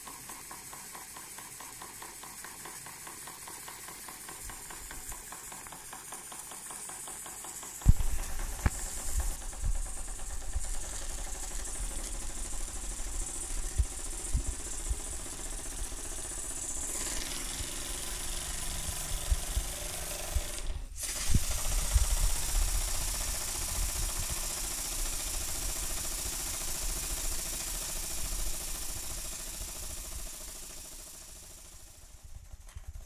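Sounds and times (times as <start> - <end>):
steam hissing: 0.0 - 32.6
model steam engine knocking: 0.0 - 33.0.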